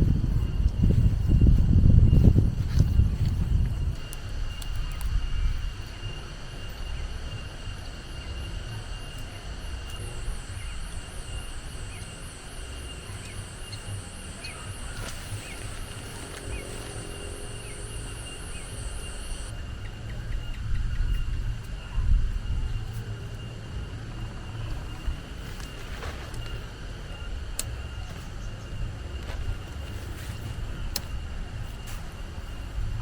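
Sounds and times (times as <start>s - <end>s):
high pulsing insect trill: 0.0s - 33.0s
insects trilling: 0.0s - 33.0s
wind rumble on microphone: 0.0s - 33.0s.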